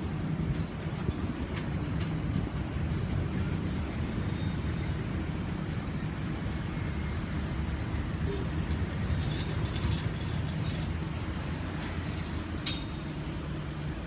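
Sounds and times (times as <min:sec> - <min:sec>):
train rumbling over viaduct: 0:00.0 - 0:14.0.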